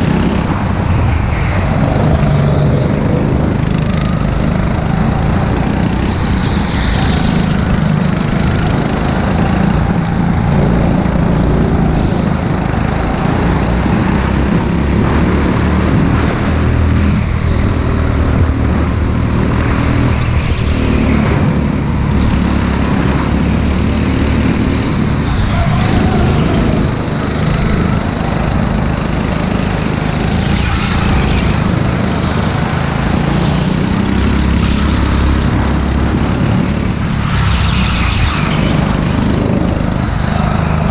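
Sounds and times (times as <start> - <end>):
go-kart engine running: 0.0 - 40.9
rattle and rumble of vibration: 0.0 - 40.9.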